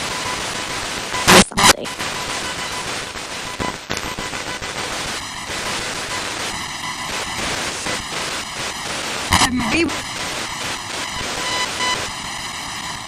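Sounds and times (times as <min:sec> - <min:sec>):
buzzy tone fragments: 0:00.0 - 0:12.8
radio static hiss: 0:00.0 - 0:13.0.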